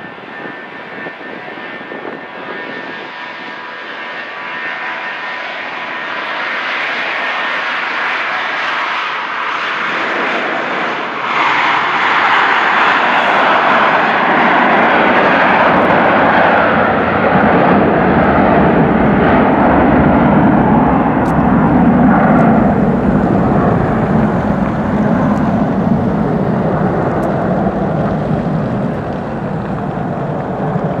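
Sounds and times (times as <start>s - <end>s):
jet engines at takeoff: 0.0s - 31.0s.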